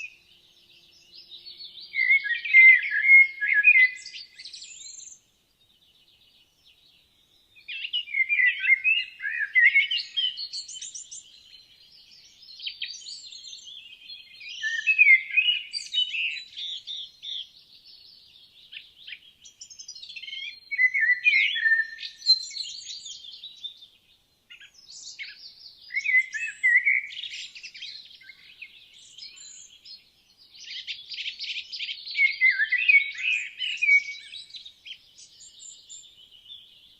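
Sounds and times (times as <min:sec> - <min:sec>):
faint bird twittering: 0:00.0 - 0:36.9
songbirds warbling: 0:00.0 - 0:36.9.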